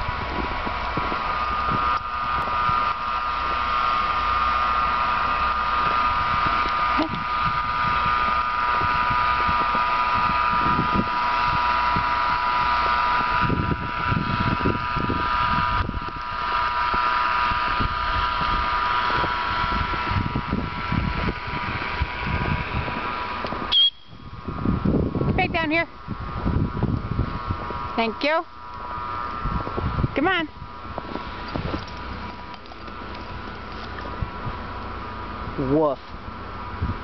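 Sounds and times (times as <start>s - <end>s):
steady high hum: 0.0s - 37.0s
wind buffeting microphone: 0.0s - 37.0s.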